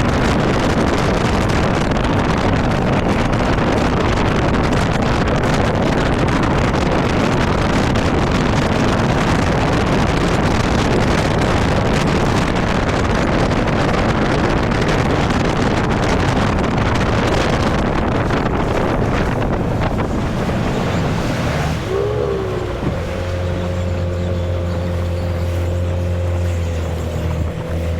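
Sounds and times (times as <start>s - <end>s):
boat outboard motor: 0.0s - 27.9s
rushing water: 0.0s - 27.9s
wind noise on microphone: 0.0s - 27.9s.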